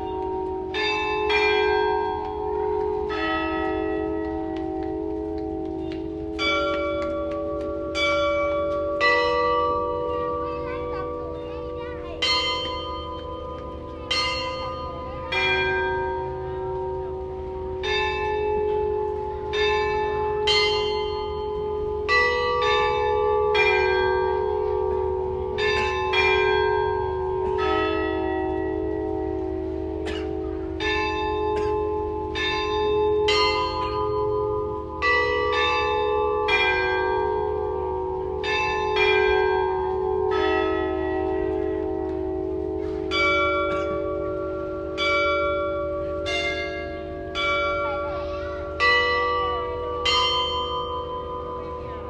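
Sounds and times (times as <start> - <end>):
church bells ringing a melody: 0.0 - 52.0.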